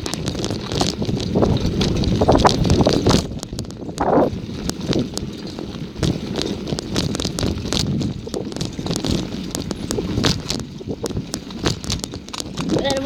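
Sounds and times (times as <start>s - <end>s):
bicycle rattling and clicking: 0.0s - 13.0s.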